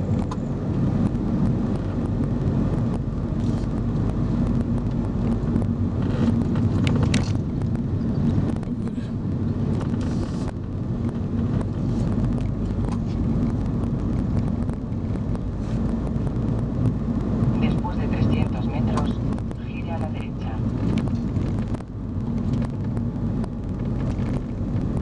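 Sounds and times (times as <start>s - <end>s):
car interior engine and road hum: 0.0s - 25.0s.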